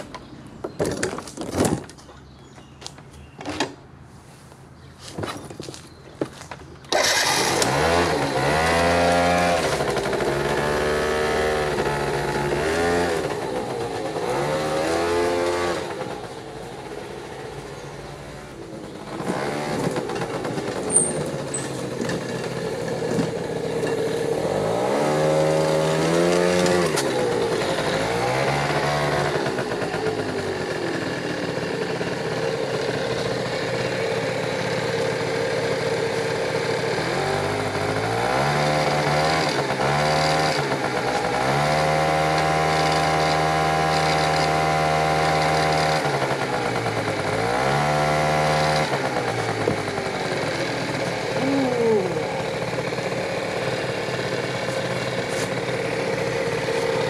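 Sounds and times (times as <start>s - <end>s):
scooter engine revving and idling: 6.9s - 57.0s.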